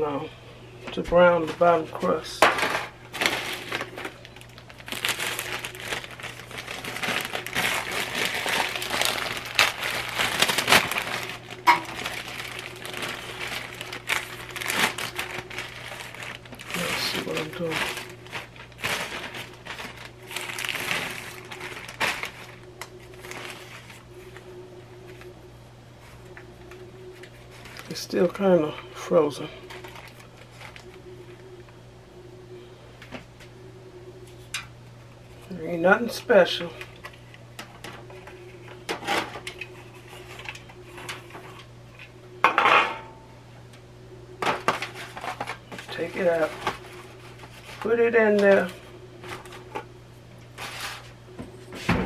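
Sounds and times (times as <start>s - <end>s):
steady low hum: 0.0s - 52.0s
plastic wrapping crinkling: 1.4s - 25.3s, 26.0s - 28.5s, 29.6s - 31.5s, 35.4s - 42.1s, 44.4s - 51.6s.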